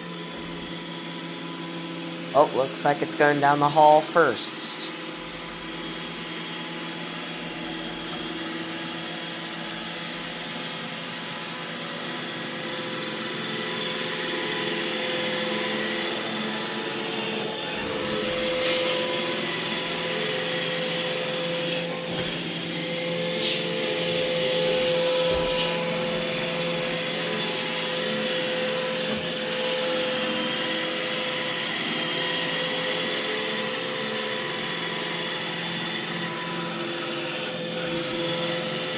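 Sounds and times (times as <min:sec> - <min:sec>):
robot vacuum running: 0:03.3 - 0:38.9.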